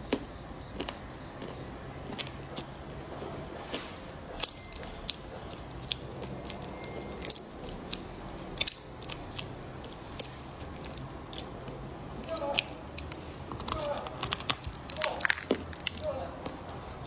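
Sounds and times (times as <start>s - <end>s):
chewing hard chocolate crunches: 0.0s - 17.0s.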